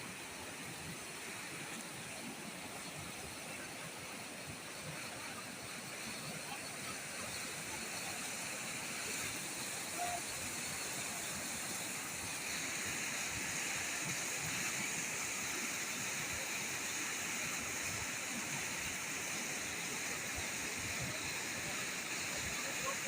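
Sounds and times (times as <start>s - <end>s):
river floodwater rushing: 0.0s - 23.0s.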